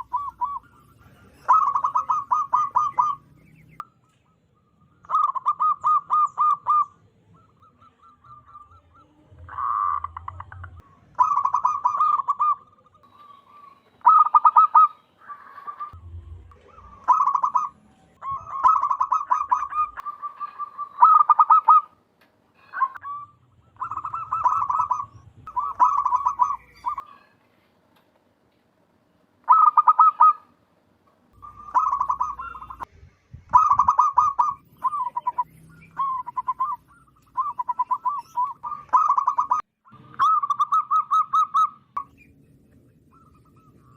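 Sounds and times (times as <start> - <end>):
dove cooing: 0.0 - 3.7, 5.0 - 22.0, 22.6 - 27.3, 29.5 - 30.5, 31.4 - 32.9, 33.5 - 41.9.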